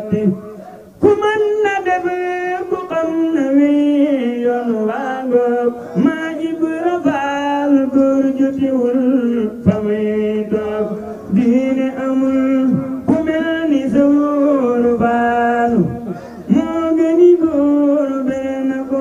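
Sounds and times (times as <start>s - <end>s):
man chanting into a microphone: 0.0s - 19.0s.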